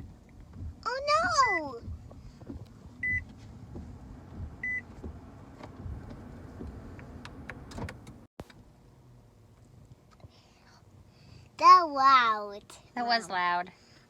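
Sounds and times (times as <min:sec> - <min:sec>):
low steady hum inside car: 0:00.0 - 0:14.0.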